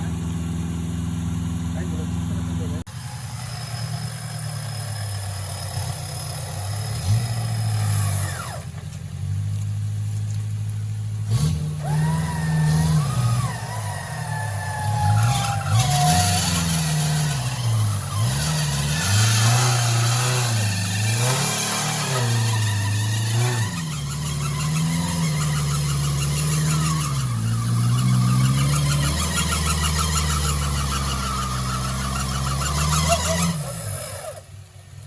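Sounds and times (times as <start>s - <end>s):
engine revving under load: 0.0s - 34.8s.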